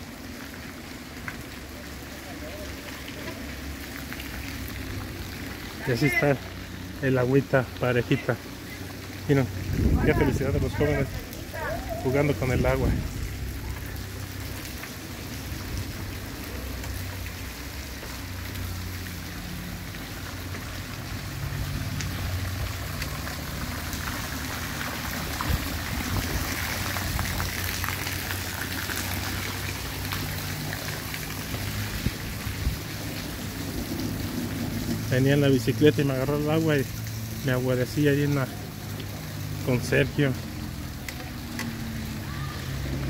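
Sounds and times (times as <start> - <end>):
light rain on wet pavement: 0.0 - 43.0.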